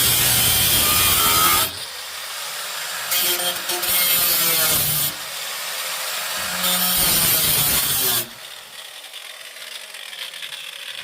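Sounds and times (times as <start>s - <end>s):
power saw cutting sheet metal: 0.0s - 11.0s.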